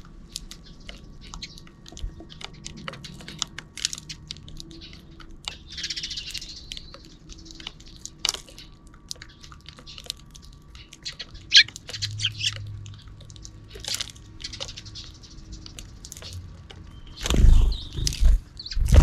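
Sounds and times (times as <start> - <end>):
sparrows chirping: 0.0 - 19.0.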